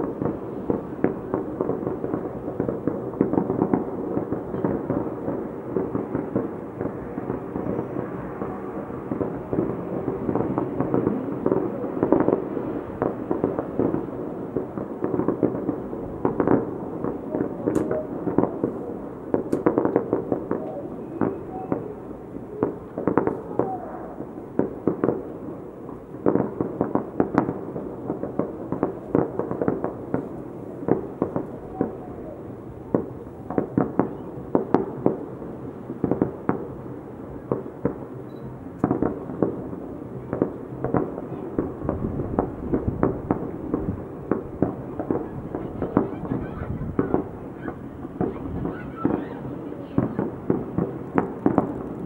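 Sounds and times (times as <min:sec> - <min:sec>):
fireworks bangs: 0:00.0 - 0:52.0.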